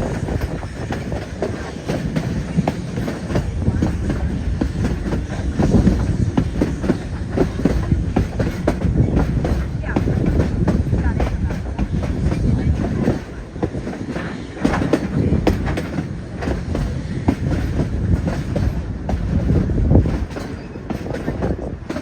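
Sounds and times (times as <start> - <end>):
railroad car rumbling: 0.0 - 22.0.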